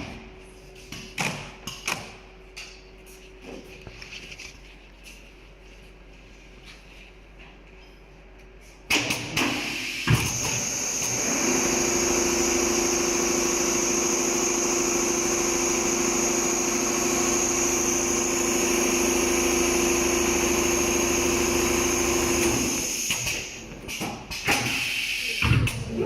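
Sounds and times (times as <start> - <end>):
machine hum and high whine: 0.0 - 26.0.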